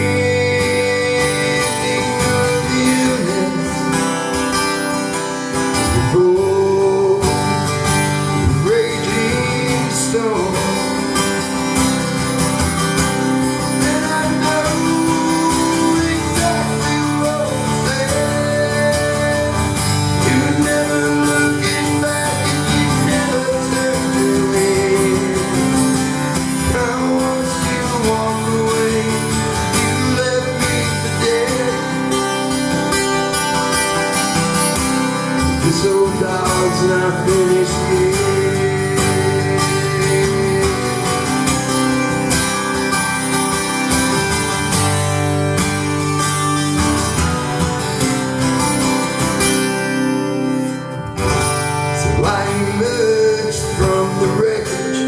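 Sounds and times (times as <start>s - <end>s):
acoustic guitar country song: 0.0s - 55.0s.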